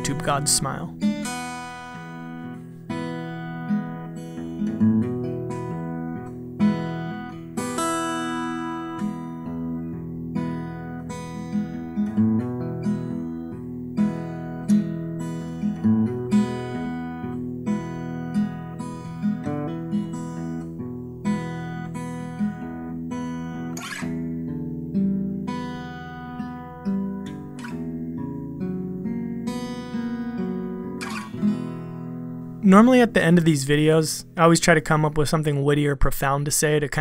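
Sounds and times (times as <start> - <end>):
acoustic guitar plucked and strummed: 0.0 - 37.0.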